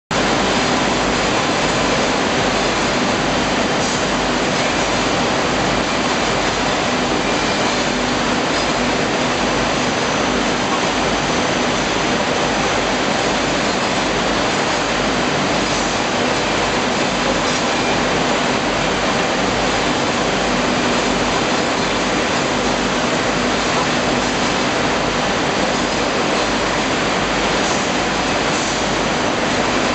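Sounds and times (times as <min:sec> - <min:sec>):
conveyor machinery rushing noise: 0:00.1 - 0:29.9.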